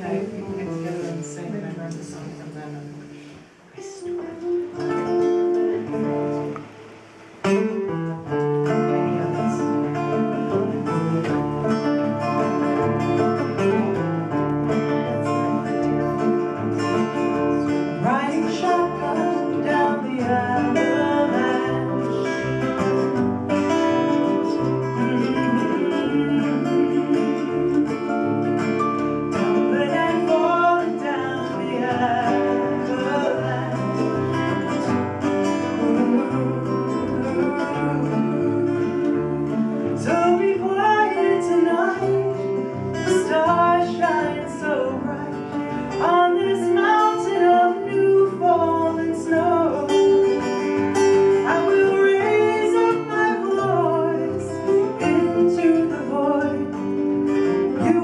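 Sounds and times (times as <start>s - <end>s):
acoustic guitar playing: 0.0s - 58.0s
person singing: 7.6s - 58.0s.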